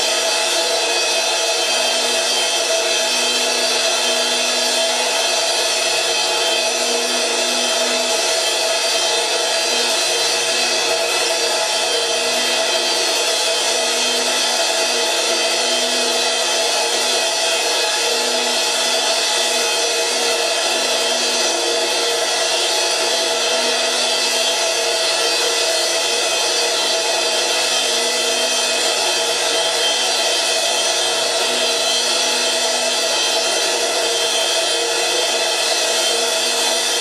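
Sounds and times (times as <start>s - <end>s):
cymbal ringing drone: 0.0s - 37.0s.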